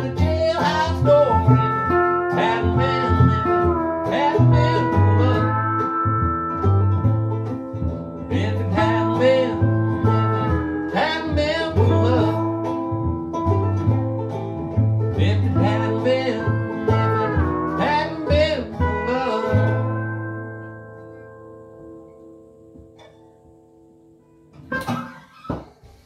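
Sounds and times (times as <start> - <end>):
cello bass notes: 0.0 - 25.1
pedal steel bending notes: 0.0 - 25.5
plucked resonator guitar: 0.0 - 25.6
ukulele: 0.0 - 25.7.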